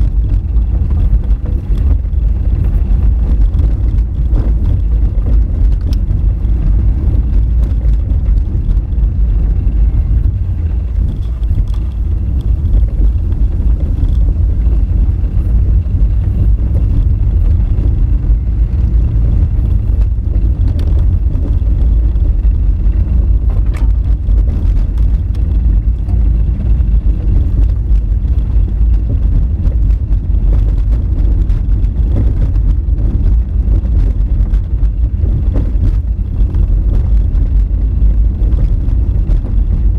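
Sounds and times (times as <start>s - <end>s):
car rumbling on gravel: 0.0s - 39.9s
faint knocks and clicks: 0.0s - 39.9s.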